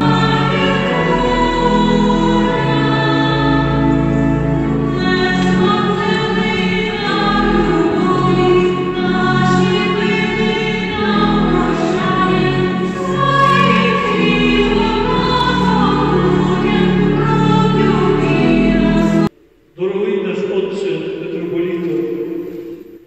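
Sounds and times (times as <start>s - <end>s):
church choir singing a hymn: 0.0s - 19.3s.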